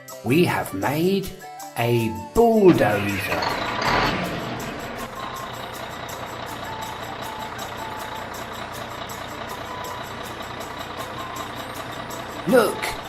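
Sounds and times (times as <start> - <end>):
cartoon bulldozer engine: 2.2 - 13.0.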